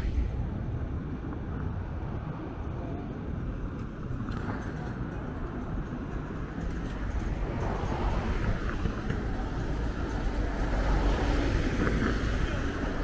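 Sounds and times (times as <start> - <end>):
low rumble of street ambience: 0.0 - 13.0.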